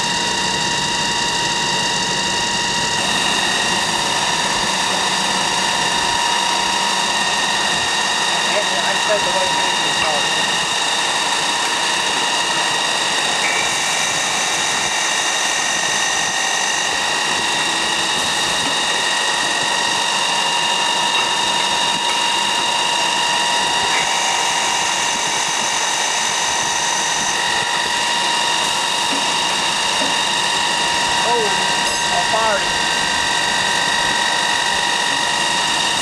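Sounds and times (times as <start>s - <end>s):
machine running with high whine: 0.0s - 36.0s.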